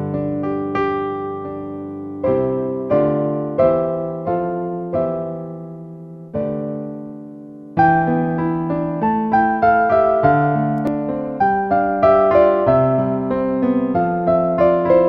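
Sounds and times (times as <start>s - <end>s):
electric piano playing slow chords: 0.0s - 15.0s.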